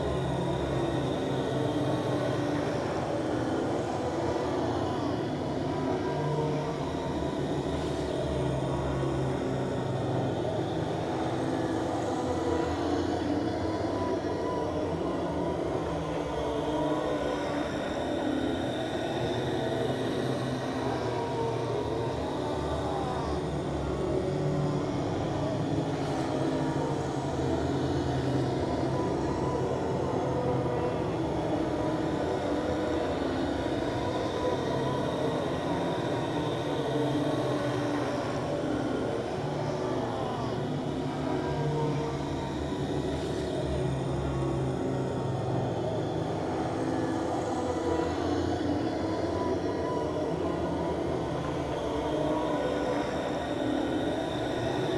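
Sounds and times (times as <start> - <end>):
ghost moan drone: 0.0 - 54.9.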